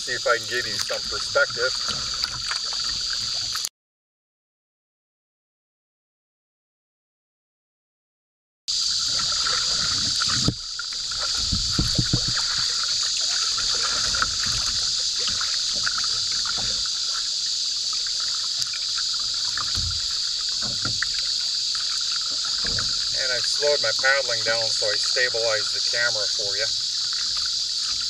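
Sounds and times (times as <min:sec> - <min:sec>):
insects droning: 0:00.0 - 0:03.7, 0:08.7 - 0:28.0
paddle splashing through water: 0:00.0 - 0:03.7, 0:08.7 - 0:28.0.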